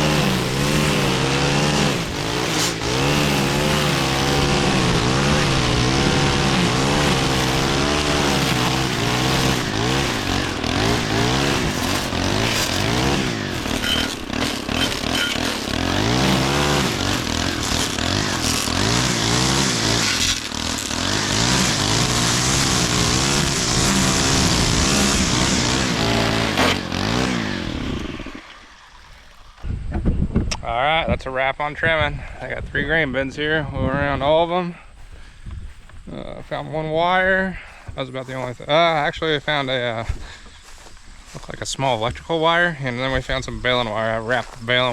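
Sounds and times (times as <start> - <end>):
string trimmer engine revving: 0.0 - 29.6, 35.0 - 44.9.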